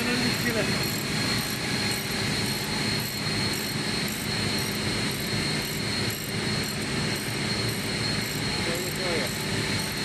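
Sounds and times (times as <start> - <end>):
high whine: 0.0 - 10.0
industrial machinery drone: 0.0 - 10.0.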